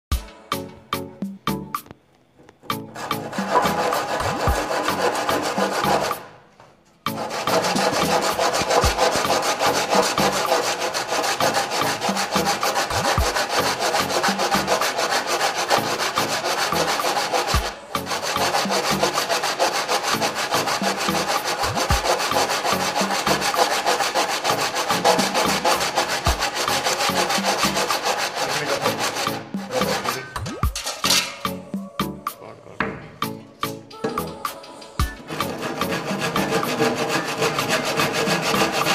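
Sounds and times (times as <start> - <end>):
hand saw cutting wood: 2.6 - 6.4, 7.1 - 31.7, 35.2 - 38.9.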